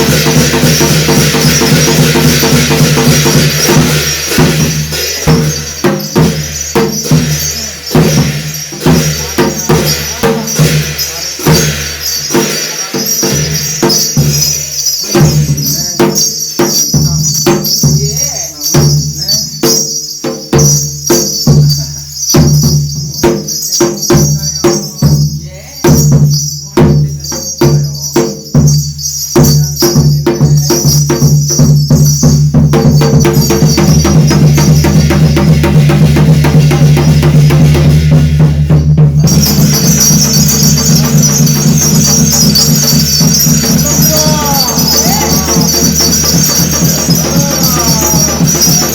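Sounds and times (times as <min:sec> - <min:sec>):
drum beaten hard: 0:00.0 - 0:48.9
jangling cymbals: 0:00.0 - 0:48.9.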